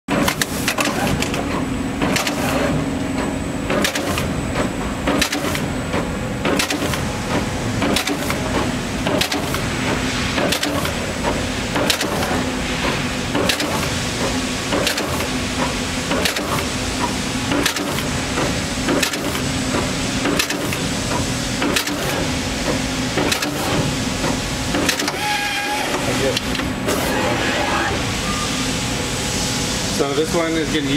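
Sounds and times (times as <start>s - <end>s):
steady machine hum: 0.1s - 30.9s.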